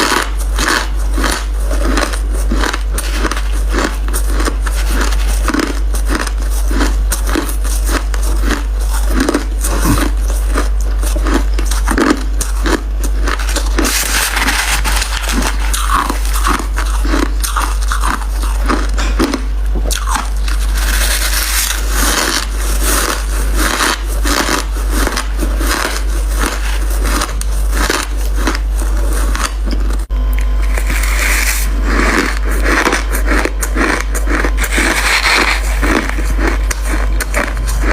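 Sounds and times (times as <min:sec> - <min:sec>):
crushed ice being chewed: 0:00.0 - 0:37.9
low hum: 0:01.6 - 0:23.0, 0:26.8 - 0:37.9.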